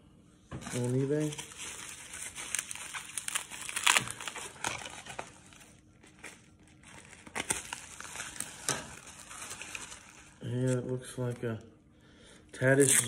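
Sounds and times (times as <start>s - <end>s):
bubble wrap crinkling: 0.6s - 11.6s, 12.6s - 13.0s.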